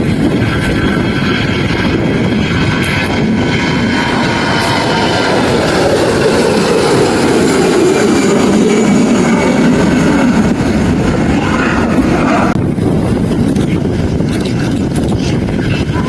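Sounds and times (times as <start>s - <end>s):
jet airliner passing: 0.0s - 16.0s.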